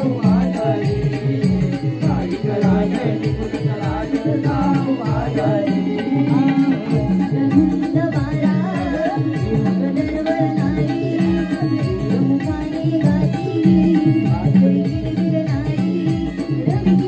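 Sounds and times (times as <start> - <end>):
drum beating quick rhythm: 0.0 - 17.0
person singing wavering melody: 0.0 - 17.0.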